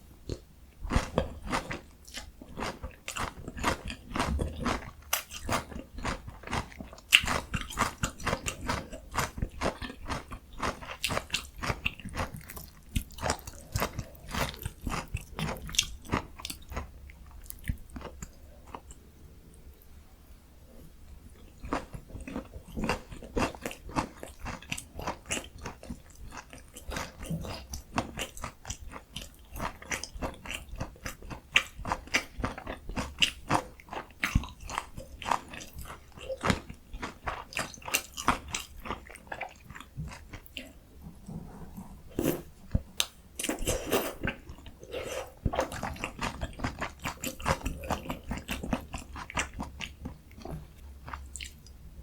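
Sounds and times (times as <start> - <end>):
crunching and chewing fried food: 0.3 - 19.0, 21.4 - 40.8, 42.2 - 51.8.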